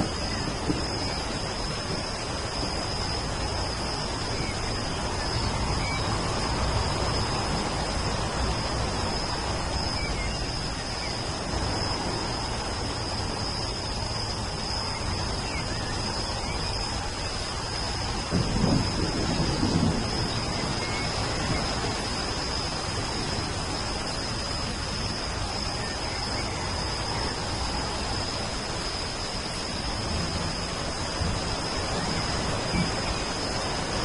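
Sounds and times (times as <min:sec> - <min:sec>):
thunder rumble: 0:00.0 - 0:28.8, 0:29.5 - 0:34.0
high-pitched insect drone: 0:00.0 - 0:34.0
steady rain: 0:00.0 - 0:34.0.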